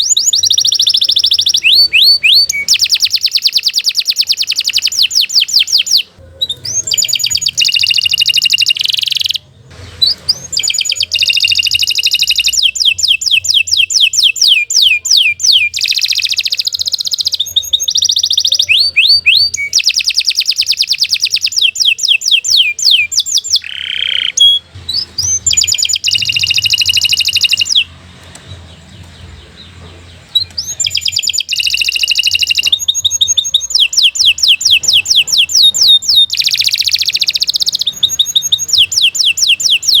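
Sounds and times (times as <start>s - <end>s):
canary singing trills: 0.0s - 40.0s.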